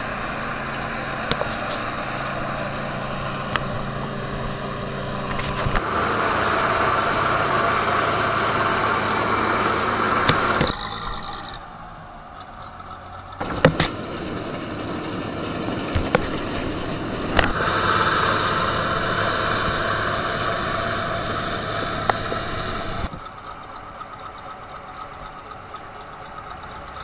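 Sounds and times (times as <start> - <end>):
combine harvester engine drone: 0.0 - 27.0.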